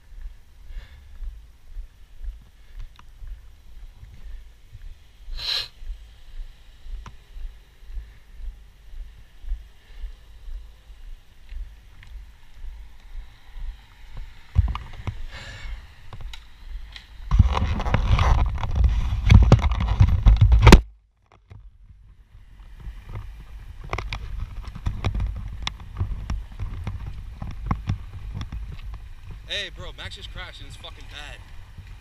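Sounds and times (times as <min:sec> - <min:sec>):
wind on camera microphone: 0:00.0 - 0:20.8, 0:21.6 - 0:32.0.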